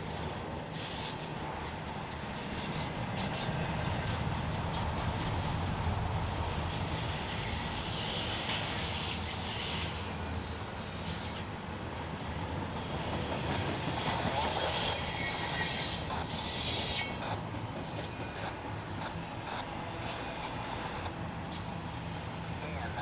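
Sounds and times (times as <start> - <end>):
freight train rumbling by: 0.0 - 23.0
train wheels squealing: 0.0 - 23.0.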